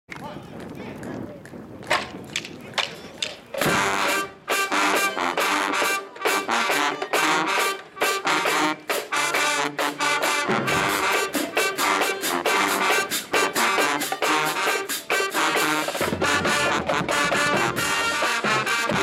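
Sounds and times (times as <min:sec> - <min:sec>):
marching band brass chords: 0:02.8 - 0:19.0.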